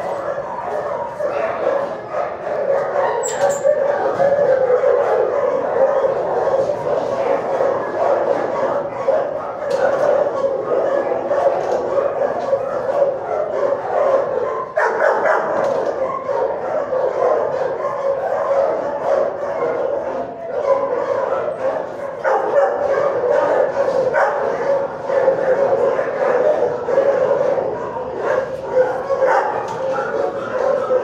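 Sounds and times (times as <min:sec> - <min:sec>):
dogs barking and yipping: 0:00.0 - 0:31.0.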